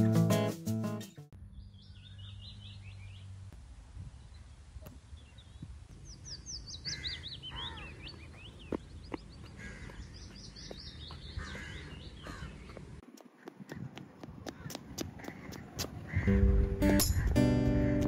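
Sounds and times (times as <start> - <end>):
birds chirping: 1.4 - 18.0.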